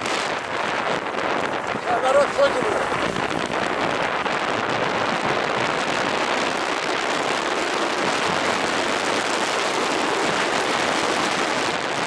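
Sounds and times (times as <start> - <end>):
wind rushing: 0.0 - 12.0.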